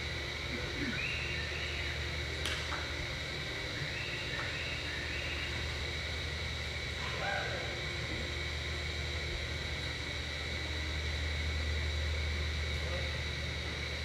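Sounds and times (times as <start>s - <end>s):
arena background hum and hiss: 0.0s - 14.0s.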